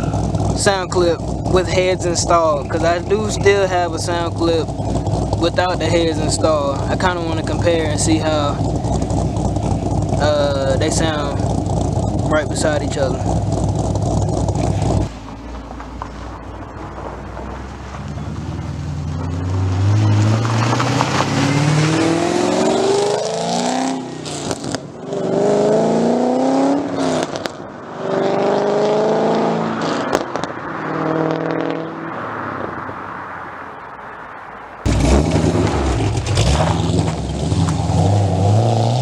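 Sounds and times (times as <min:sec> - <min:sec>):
car engine accelerating: 0:00.0 - 0:33.3, 0:34.4 - 0:39.0.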